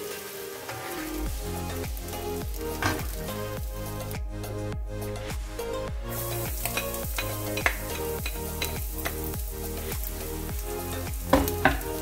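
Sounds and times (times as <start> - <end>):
garlic sizzling in oil: 0.0 - 4.6, 6.1 - 12.0
background music with steady beat: 0.0 - 12.0.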